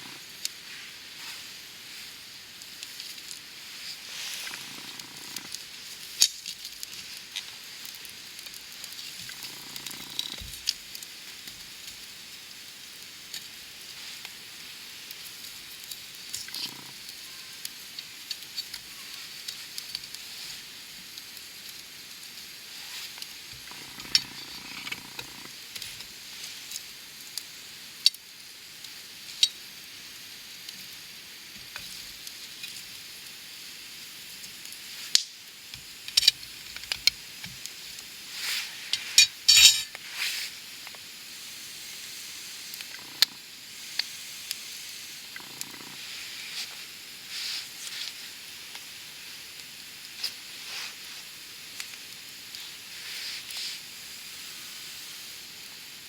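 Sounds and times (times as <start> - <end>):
fire hissing: 0.0 - 56.0
campfire crackling and popping: 1.5 - 29.6, 34.0 - 41.5, 42.6 - 52.7.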